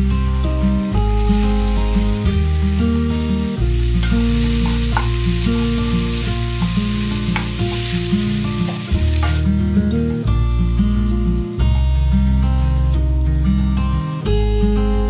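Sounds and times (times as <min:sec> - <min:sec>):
food sizzling in a pan: 0:00.0 - 0:14.5
soft background music: 0:00.0 - 0:15.0.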